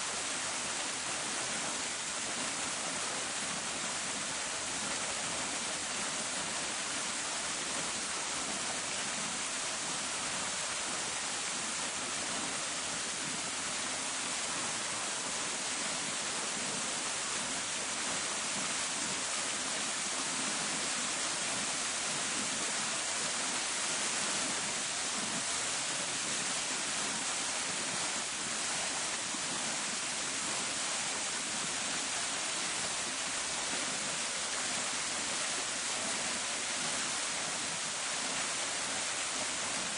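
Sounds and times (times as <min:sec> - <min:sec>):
fountain splashing water: 0:00.0 - 0:39.9.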